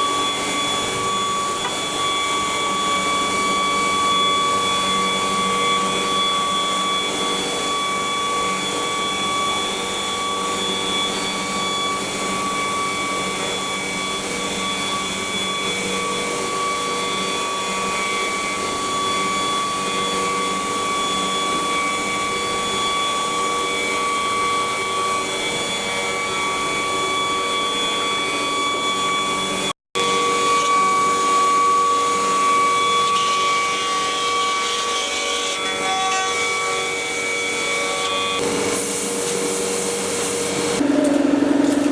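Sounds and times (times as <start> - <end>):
router spindle whining: 0.0 - 41.1.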